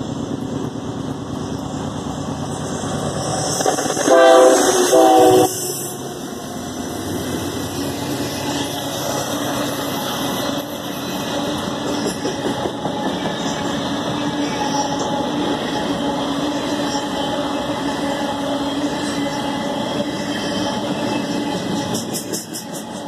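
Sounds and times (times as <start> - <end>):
steel train wheels on rails: 0.0 - 23.0.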